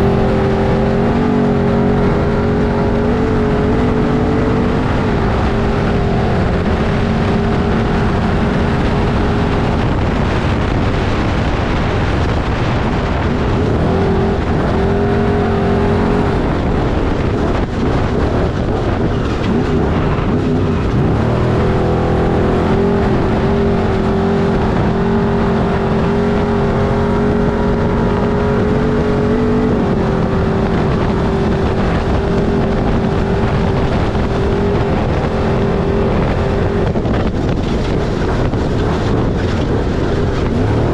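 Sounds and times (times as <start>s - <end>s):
constant rushing noise: 0.0s - 40.9s
race vehicle engine revving high: 0.0s - 40.9s.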